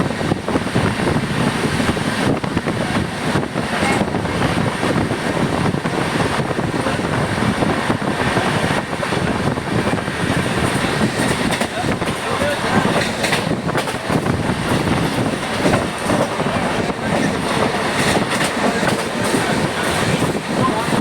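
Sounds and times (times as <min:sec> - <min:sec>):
rushing air: 0:00.0 - 0:21.0
train wheels rumbling on rails: 0:00.0 - 0:21.0.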